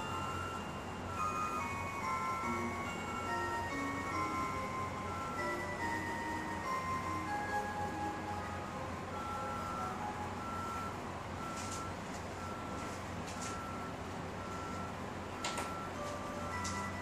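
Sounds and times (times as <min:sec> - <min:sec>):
electronic clock chime beeping: 0:00.0 - 0:17.0.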